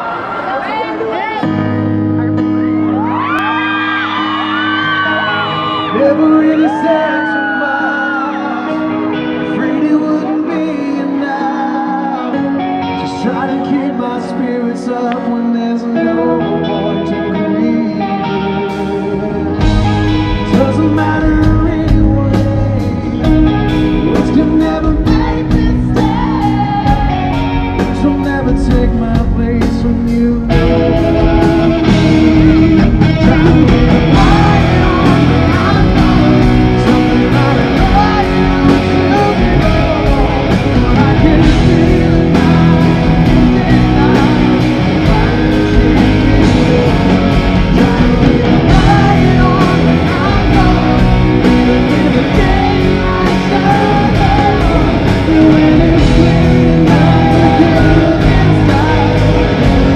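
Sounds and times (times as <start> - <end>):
drums: 0.0 - 15.2, 17.6 - 59.9
electric guitar: 0.0 - 59.9
man singing: 4.7 - 59.9.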